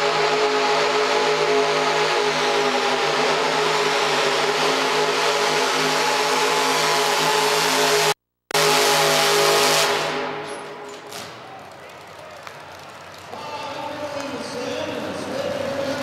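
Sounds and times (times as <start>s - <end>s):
tractor engine at full throttle: 0.0s - 10.7s, 13.7s - 16.0s.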